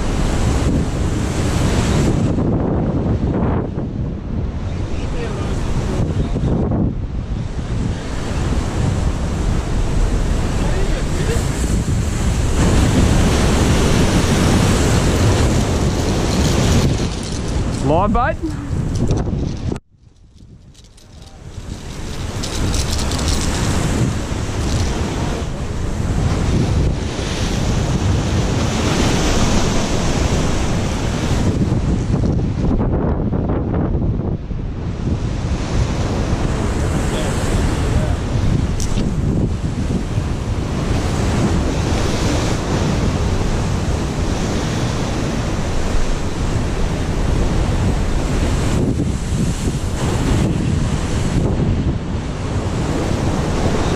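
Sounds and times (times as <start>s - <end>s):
ocean surf breaking: 0.0s - 19.8s, 20.7s - 32.9s, 34.6s - 53.9s
wind buffeting microphone: 0.0s - 53.9s.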